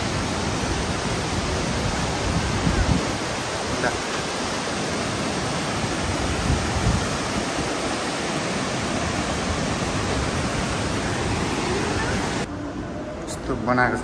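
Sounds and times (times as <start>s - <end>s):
waterfall roaring: 0.0s - 13.3s.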